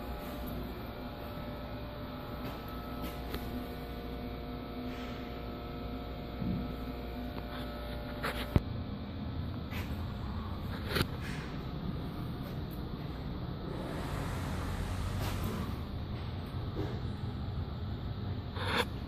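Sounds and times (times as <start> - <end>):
low hum with steady tones: 0.0 - 19.0.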